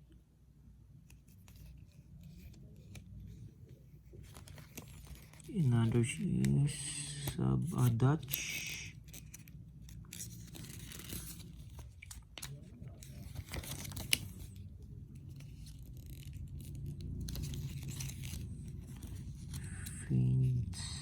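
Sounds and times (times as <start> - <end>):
paper pages rustling: 1.1 - 21.0.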